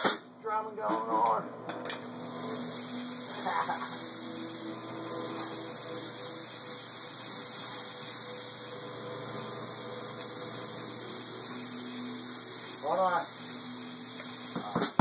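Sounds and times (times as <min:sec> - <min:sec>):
steady hiss: 0:02.0 - 0:15.0.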